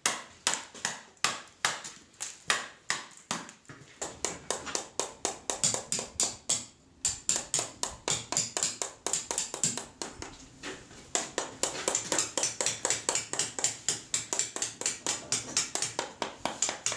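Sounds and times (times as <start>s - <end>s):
mallet striking chisel on stone: 2.5s - 10.4s, 11.2s - 16.9s.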